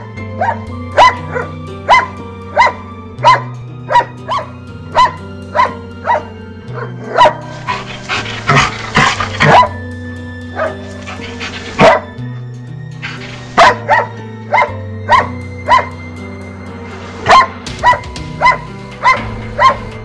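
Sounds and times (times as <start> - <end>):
background music with low notes: 0.0 - 20.0
dog barking: 0.4 - 9.8, 10.6 - 12.2, 13.0 - 16.0, 17.2 - 19.9.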